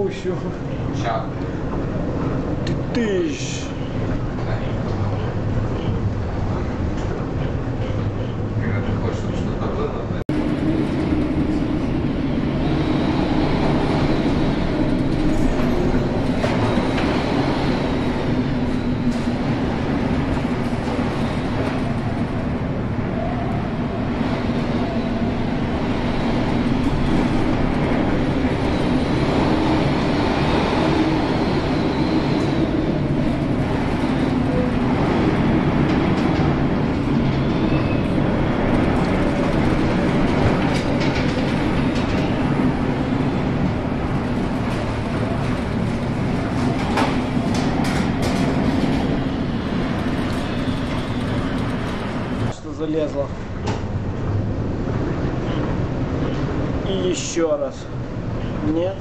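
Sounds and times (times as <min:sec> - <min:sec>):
storm wind rumble: 0:00.0 - 0:57.2
heavy seas against ship: 0:00.0 - 0:59.0.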